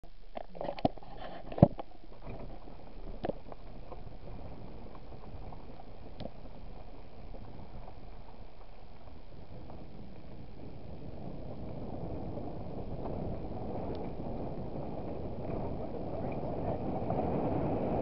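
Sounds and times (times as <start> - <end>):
vehicle rolling on gravel: 2.1 - 18.0.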